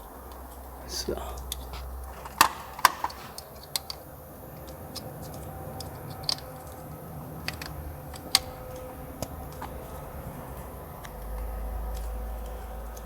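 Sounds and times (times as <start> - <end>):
faint low hum: 0.0 - 13.0
light clicks and taps: 0.2 - 13.0.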